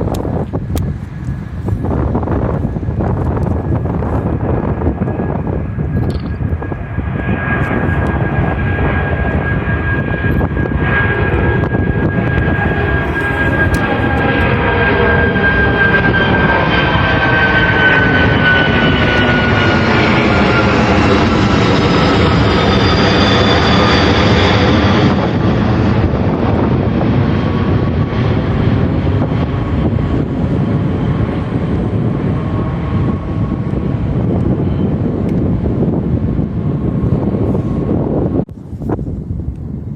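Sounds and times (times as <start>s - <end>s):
airliner engines passing: 0.0s - 39.9s.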